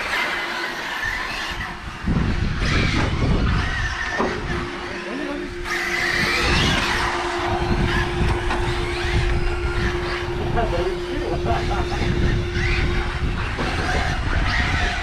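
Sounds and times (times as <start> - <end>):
rc car motor whining: 0.0 - 15.0
low rumble: 1.2 - 15.0.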